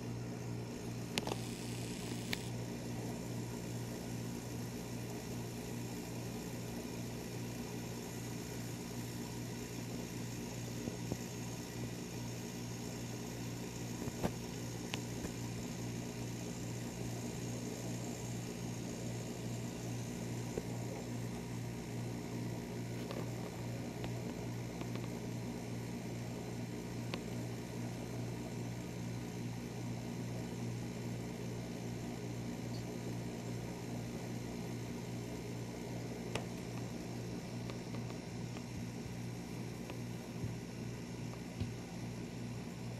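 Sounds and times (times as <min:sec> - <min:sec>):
low room tone hum: 0:00.0 - 0:42.9.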